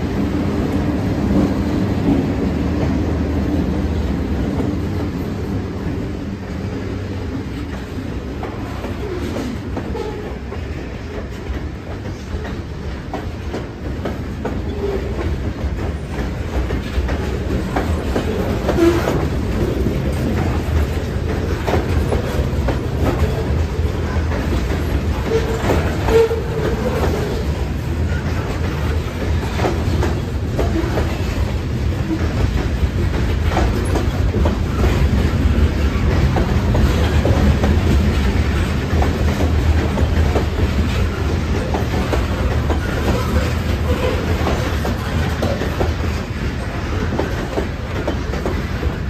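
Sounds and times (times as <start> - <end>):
freight train rumble: 0.0 - 49.0
wheels clacking over rail joints: 7.3 - 49.0.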